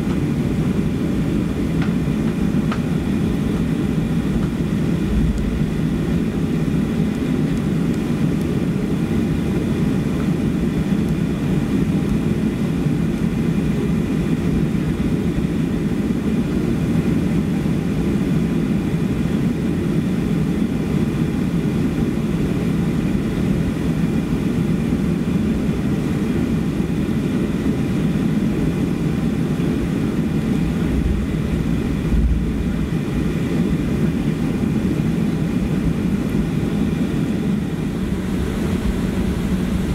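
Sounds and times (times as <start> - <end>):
faint engine whine: 0.0 - 39.9
jet engines idling rumble: 0.0 - 39.9.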